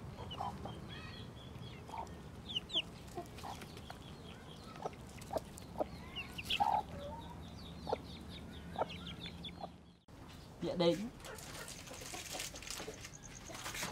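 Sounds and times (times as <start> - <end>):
chickens clucking: 0.0 - 10.0, 11.2 - 13.9
small birds chirping: 0.0 - 13.9.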